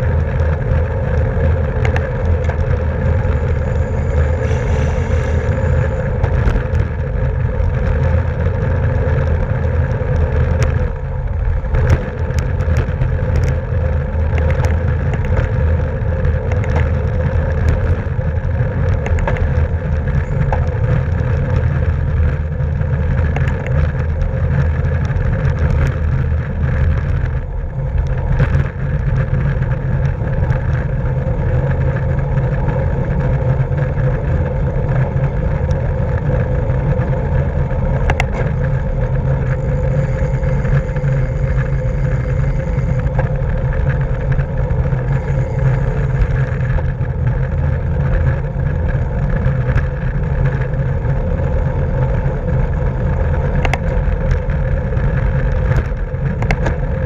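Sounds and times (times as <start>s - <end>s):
bicycle ticks and clicks: 0.0s - 57.0s
wind buffeting microphone: 0.0s - 57.0s.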